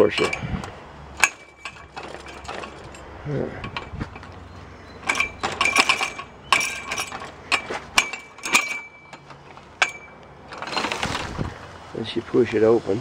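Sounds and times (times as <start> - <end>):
metallic clinks of latch and padlock: 0.0 - 11.2
chain-link gate rattling: 0.0 - 11.4.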